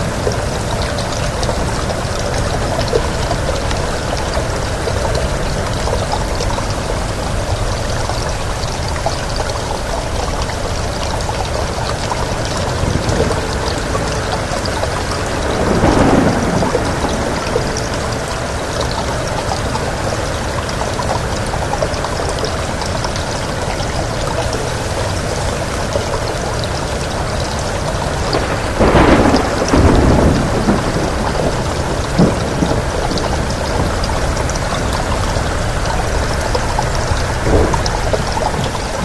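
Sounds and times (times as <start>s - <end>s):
heavy rain: 0.0s - 39.0s
thunder rumbling: 0.0s - 39.0s.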